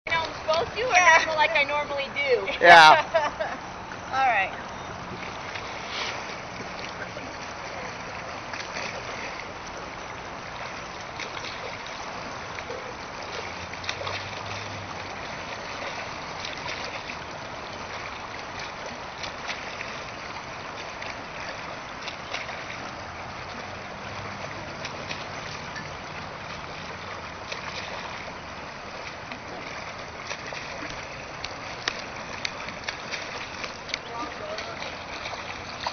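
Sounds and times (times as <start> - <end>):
swimmer splashing in a pool: 0.1 - 35.9.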